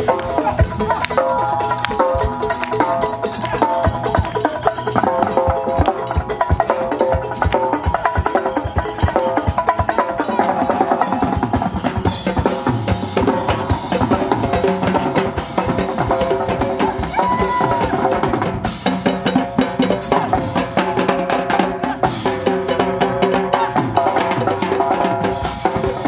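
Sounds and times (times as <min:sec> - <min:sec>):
drum beaten with sticks: 0:00.0 - 0:26.0.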